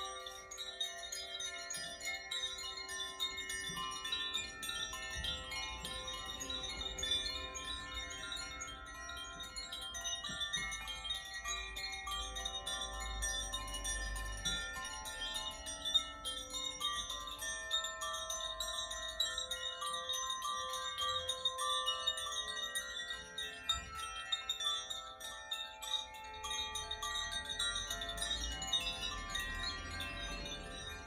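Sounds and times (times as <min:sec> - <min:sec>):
wind chimes ringing: 0:00.0 - 0:31.0.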